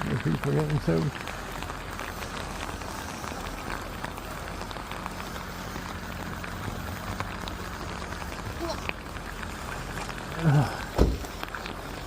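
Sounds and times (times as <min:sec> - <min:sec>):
heavy rain on a car: 0:00.0 - 0:12.0.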